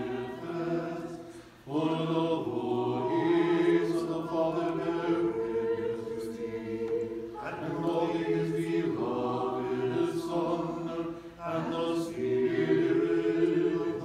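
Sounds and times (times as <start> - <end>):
voices chanting a cappella: 0.0 - 14.0.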